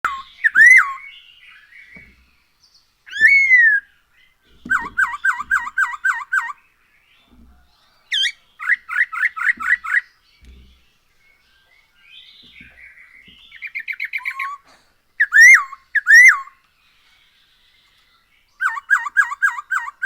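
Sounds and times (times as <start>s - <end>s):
bird whistled song: 0.0s - 2.2s, 3.1s - 7.4s, 8.0s - 14.6s, 15.2s - 20.0s.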